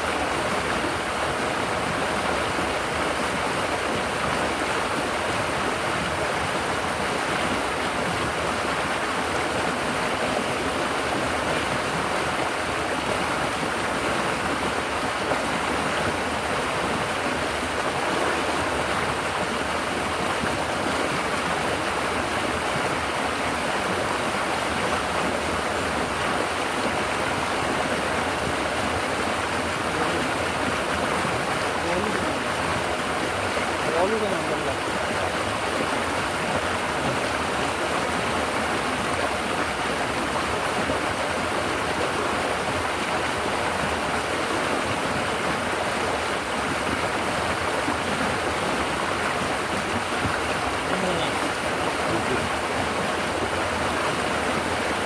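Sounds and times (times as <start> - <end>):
river water flowing over rocks: 0.0 - 55.0.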